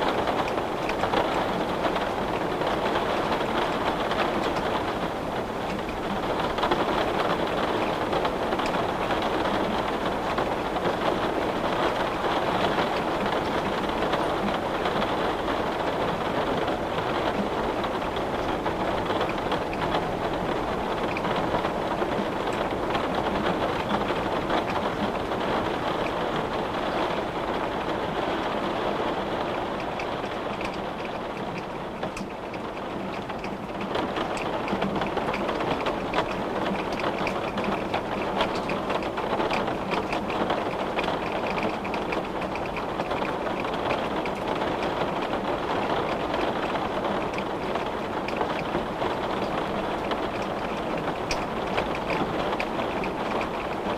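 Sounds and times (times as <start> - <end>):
rain on a window: 0.0 - 53.9.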